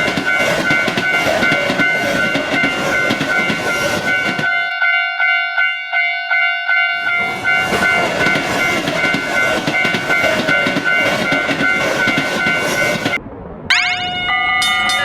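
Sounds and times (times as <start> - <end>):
railroad crossing alarm ringing: 0.0 - 15.0
train rumbling past: 0.0 - 15.0.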